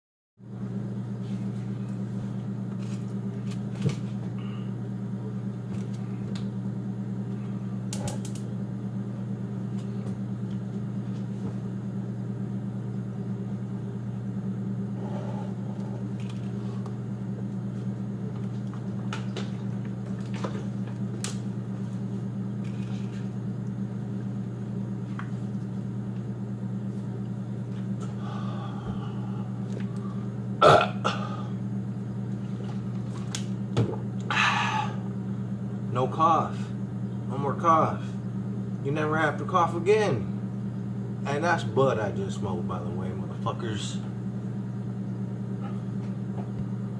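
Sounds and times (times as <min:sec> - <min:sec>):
low machine hum: 0:00.4 - 0:46.9.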